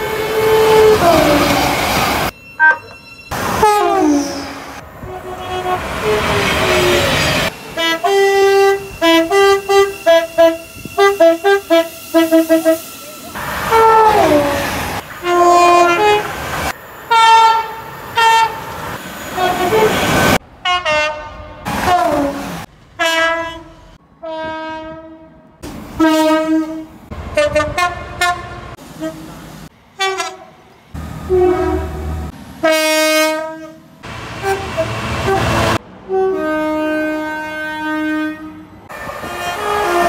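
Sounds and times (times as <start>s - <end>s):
two-tone train horns: 0.0s - 1.7s, 2.6s - 16.4s, 17.1s - 18.6s, 19.4s - 40.0s.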